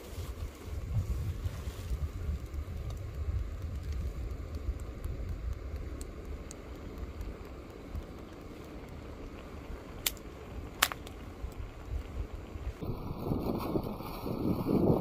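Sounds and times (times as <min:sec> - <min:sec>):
pasta simmering in pan: 0:00.0 - 0:15.0
wind rumbling on microphone: 0:00.0 - 0:15.0.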